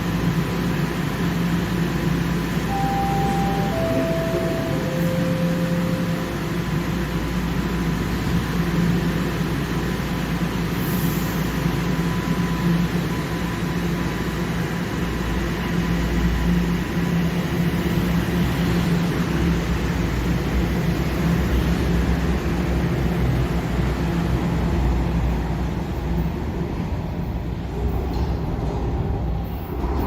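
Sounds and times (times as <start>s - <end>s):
subway train rumble and hum: 0.0s - 30.0s.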